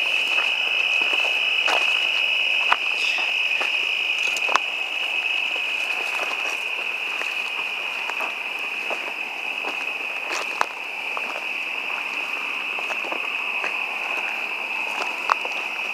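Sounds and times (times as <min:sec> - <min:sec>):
crickets trilling: 0:00.0 - 0:15.9
footsteps through dry brush: 0:00.0 - 0:15.9.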